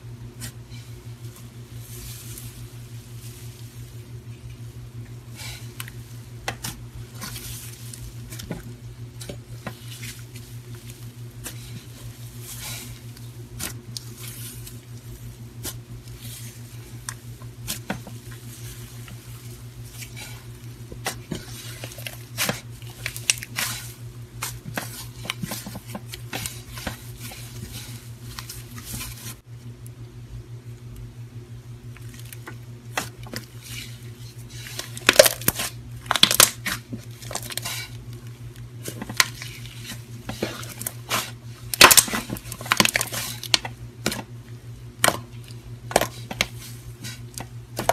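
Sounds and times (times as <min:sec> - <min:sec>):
steady low hum: 0:00.0 - 0:47.9
wet slime squishes: 0:00.4 - 0:29.4, 0:31.9 - 0:44.4, 0:45.0 - 0:47.9.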